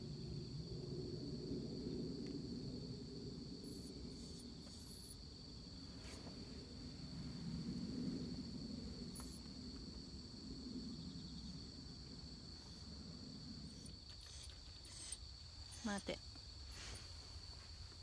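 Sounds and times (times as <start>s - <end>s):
insects trilling: 0.0s - 18.0s
low outdoor hum: 0.0s - 18.0s.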